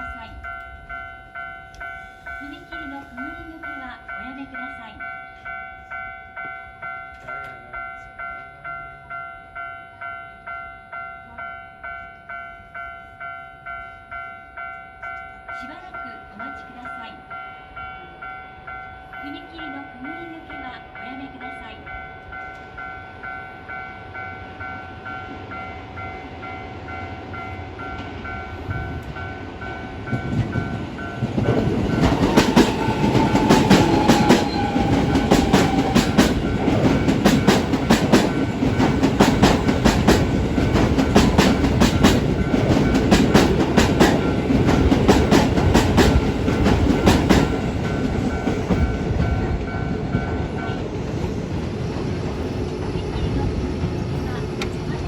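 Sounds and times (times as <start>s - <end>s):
level crossing warning bells: 0.0s - 51.2s
electric train passing: 0.0s - 55.0s.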